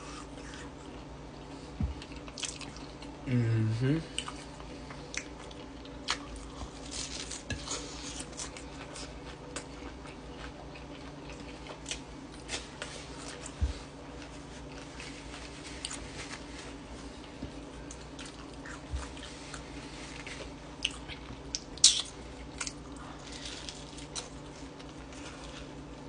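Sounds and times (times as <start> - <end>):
person chewing crunchy food: 0.0 - 3.2, 4.1 - 26.0
low steady hum: 0.0 - 26.0.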